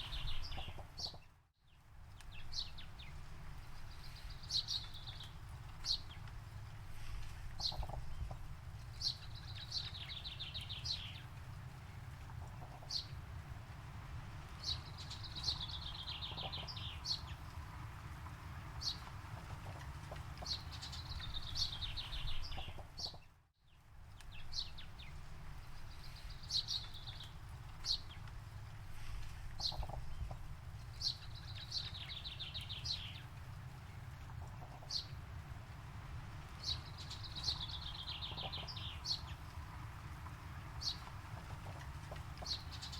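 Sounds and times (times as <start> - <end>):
low outdoor rumble: 0.0 - 42.9.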